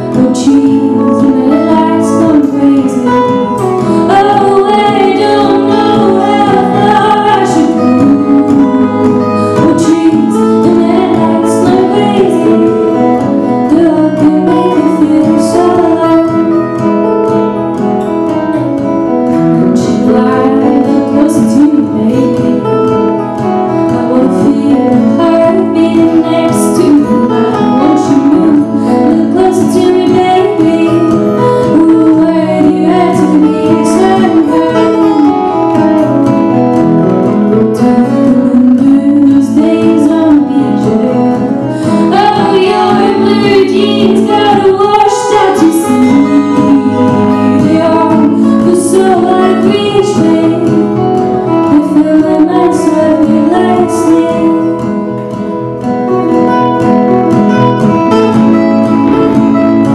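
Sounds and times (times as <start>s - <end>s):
woman singing: 0.0s - 36.6s, 37.3s - 55.7s
acoustic guitars playing: 0.0s - 59.9s.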